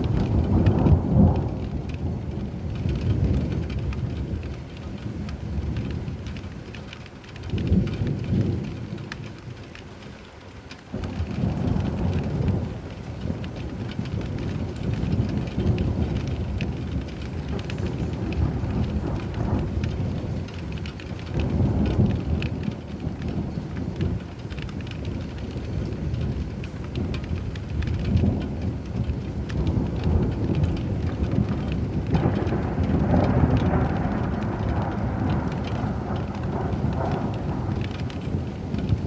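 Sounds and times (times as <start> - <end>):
low rolling thunder: 0.0 - 39.0
steady rain falling: 0.0 - 39.0.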